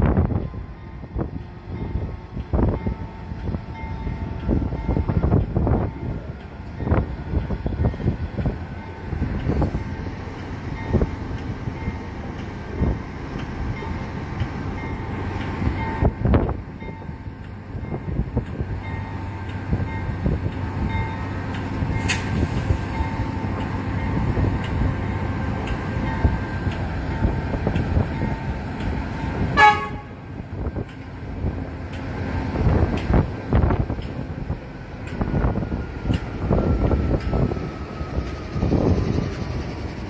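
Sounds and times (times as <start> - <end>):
locomotive engine rumble: 0.0 - 40.0.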